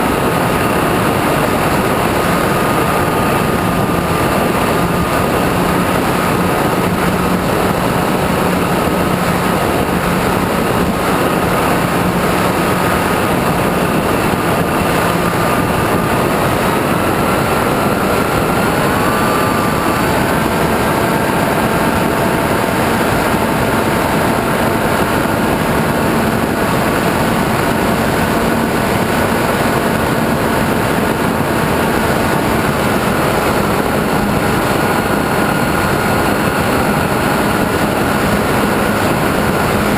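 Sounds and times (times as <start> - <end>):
model airplane motor and propeller: 0.0 - 39.9
wind rushing: 0.0 - 39.9.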